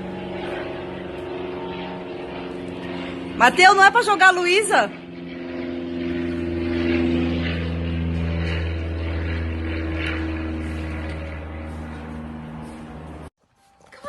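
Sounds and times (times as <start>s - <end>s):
motor drone: 0.0s - 13.3s.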